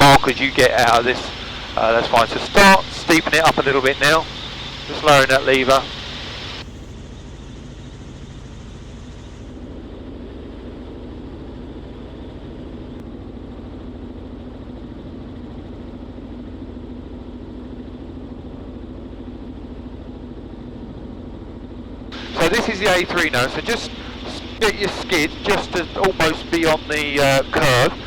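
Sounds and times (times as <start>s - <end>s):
helicopter engine and rotors droning: 0.0s - 28.0s
low hum: 0.0s - 28.0s.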